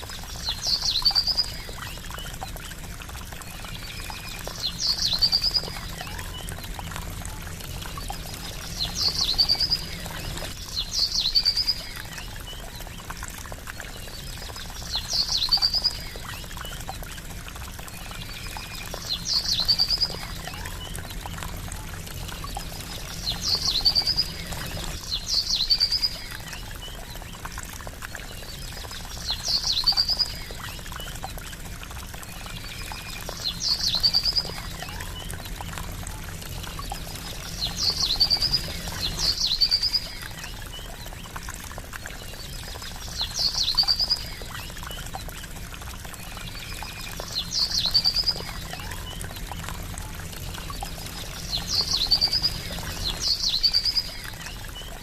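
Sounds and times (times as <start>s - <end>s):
trickling splashing water: 0.0s - 55.0s.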